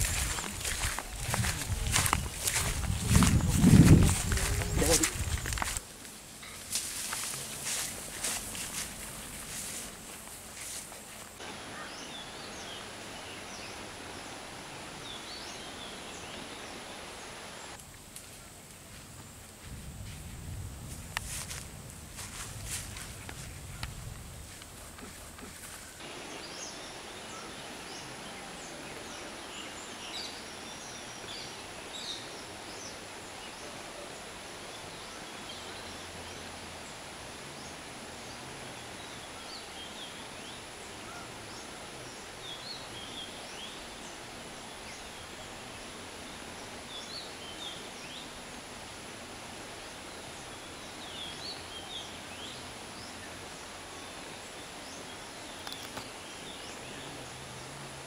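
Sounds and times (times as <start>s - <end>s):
constant low hiss: 0.0s - 58.0s.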